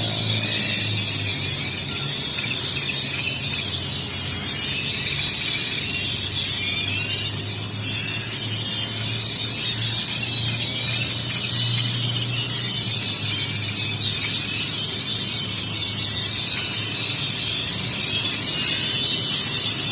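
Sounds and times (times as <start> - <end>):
chorus of birds chirping: 0.0 - 19.9.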